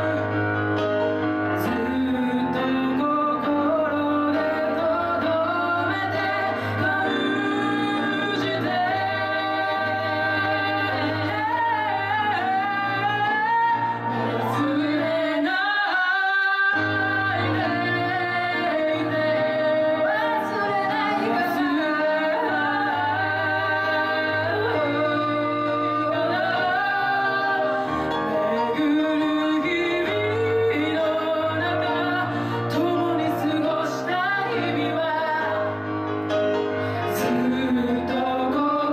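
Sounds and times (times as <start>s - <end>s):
instrumental accompaniment: 0.0s - 38.9s
person singing: 0.0s - 38.9s.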